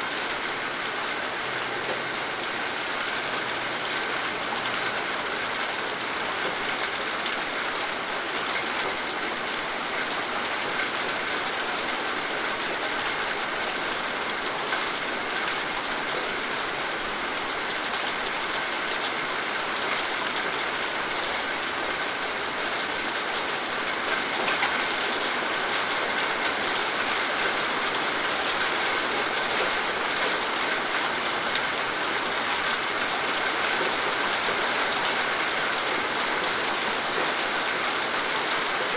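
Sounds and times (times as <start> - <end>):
rain hissing on a surface: 0.0 - 38.9.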